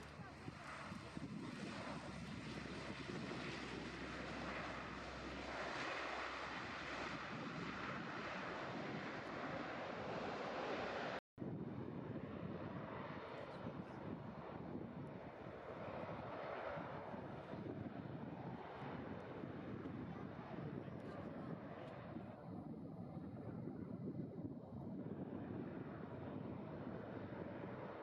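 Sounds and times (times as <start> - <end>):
distant turboprop aircraft drone: 0.0 - 28.0
wind on microphone: 0.0 - 28.0.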